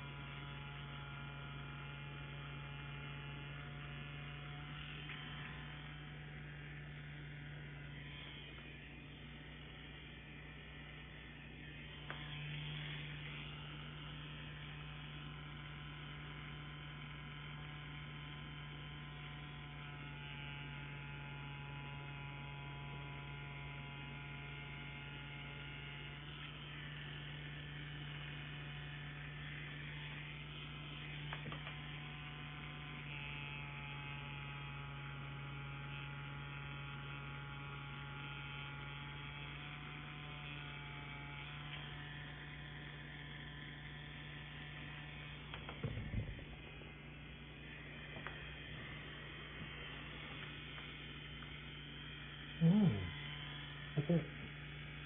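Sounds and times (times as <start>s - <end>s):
tattoo pen motor buzzing: 0.0s - 55.0s.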